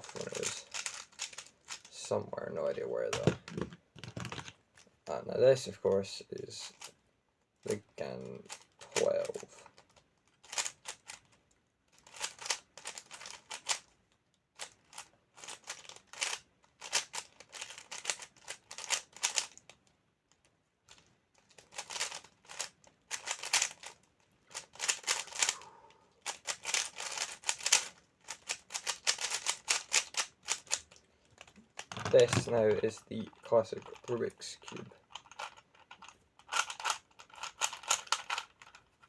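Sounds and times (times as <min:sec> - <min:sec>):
puzzle cube plastic clicks: 0:00.0 - 0:01.9, 0:03.1 - 0:04.6, 0:08.5 - 0:11.4, 0:12.0 - 0:14.0, 0:14.6 - 0:19.8, 0:20.4 - 0:25.6, 0:26.2 - 0:39.0.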